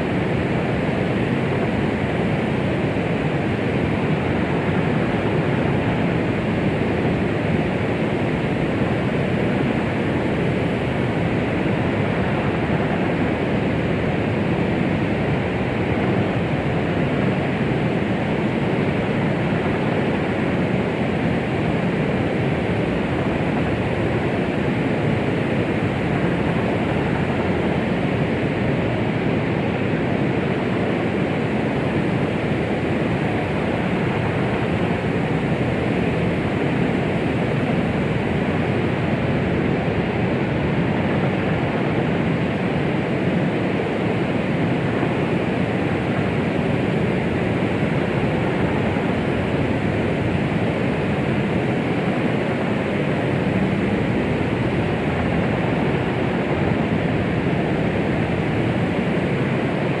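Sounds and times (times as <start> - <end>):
deep rushing white noise: 0.0 - 60.0.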